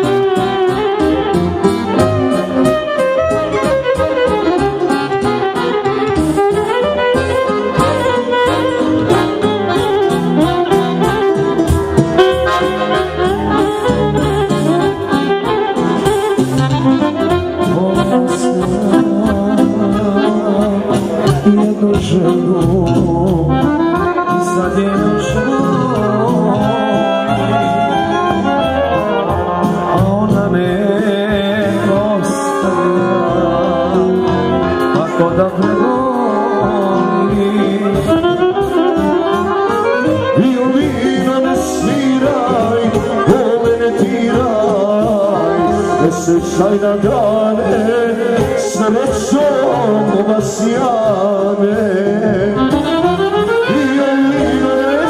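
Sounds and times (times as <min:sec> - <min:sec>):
folk band music over speakers: 0:00.0 - 0:55.0
man singing into a microphone: 0:00.0 - 0:55.0
violin melody: 0:00.0 - 0:55.0.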